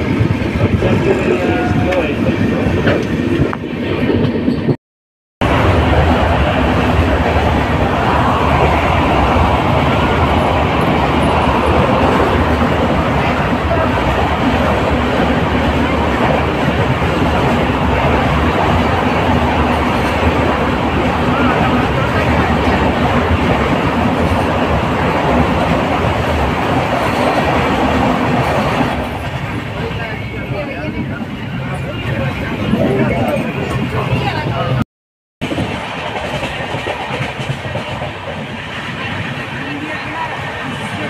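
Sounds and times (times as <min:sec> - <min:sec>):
train coach rumbling: 0:00.0 - 0:04.8, 0:05.4 - 0:34.8, 0:35.4 - 0:41.0.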